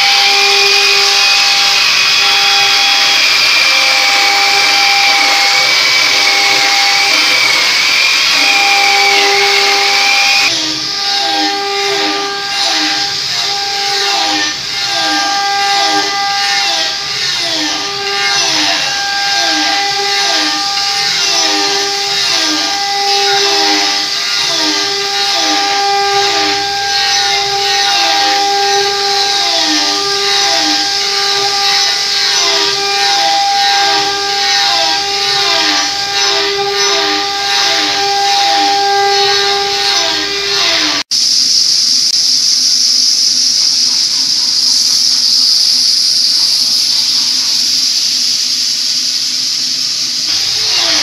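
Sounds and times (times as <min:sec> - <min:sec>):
lathe motor whine: 0:00.0 - 0:41.5, 0:49.9 - 0:51.0
sandpaper hissing on spinning wood: 0:00.0 - 0:51.0.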